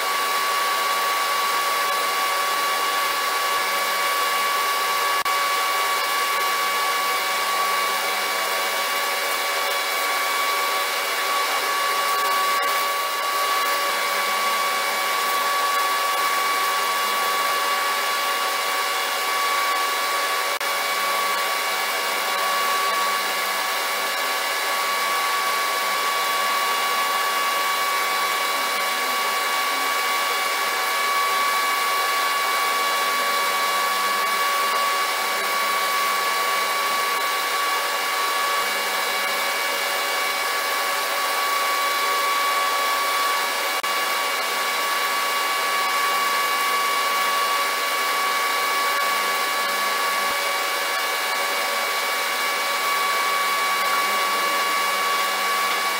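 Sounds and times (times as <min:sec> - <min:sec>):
small electric motor whining: 0:00.0 - 0:55.9.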